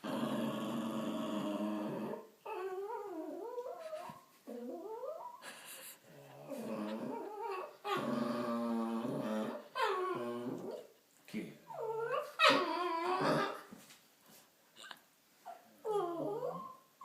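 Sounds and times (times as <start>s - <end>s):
small dog growling and whining: 0.0s - 10.9s, 11.7s - 13.7s, 15.4s - 16.9s.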